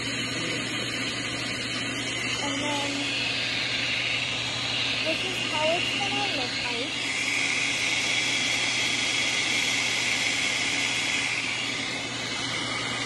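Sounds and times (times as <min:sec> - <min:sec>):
food processor motor whirring: 0:00.0 - 0:13.0.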